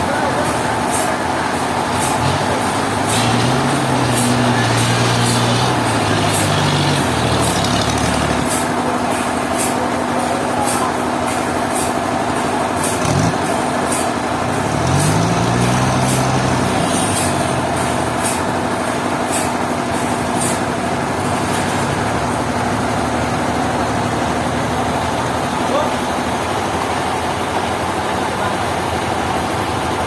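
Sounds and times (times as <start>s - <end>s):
heavy engine under load: 0.0s - 30.0s.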